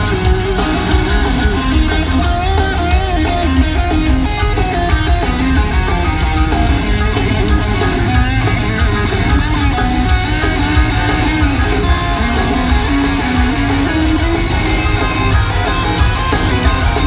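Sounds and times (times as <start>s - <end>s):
bass and drums: 0.0s - 17.0s
electric guitar solo: 0.0s - 17.0s.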